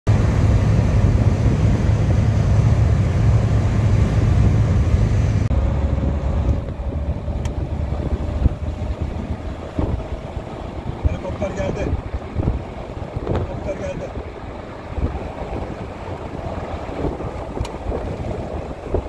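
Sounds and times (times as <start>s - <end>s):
car road and wind noise: 0.1s - 19.0s
wind buffeting microphone: 0.1s - 19.0s.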